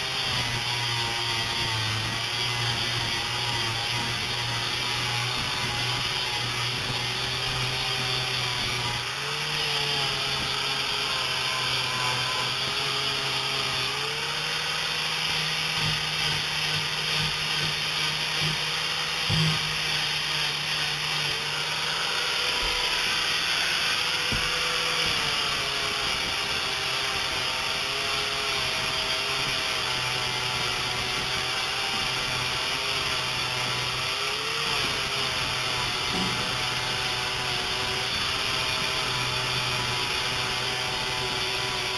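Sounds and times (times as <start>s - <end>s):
angle grinder sanding: 0.0s - 41.9s.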